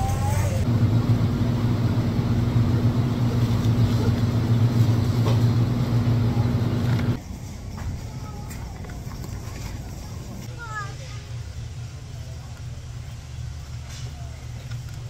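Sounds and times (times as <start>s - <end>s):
low hum of refrigeration fans: 0.0s - 15.0s.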